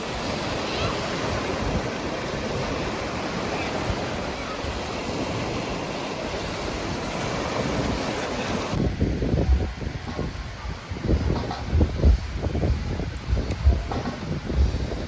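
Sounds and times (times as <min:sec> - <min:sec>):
sea waves on sandy beach: 0:00.0 - 0:15.0
wind buffeting microphone: 0:00.0 - 0:15.0.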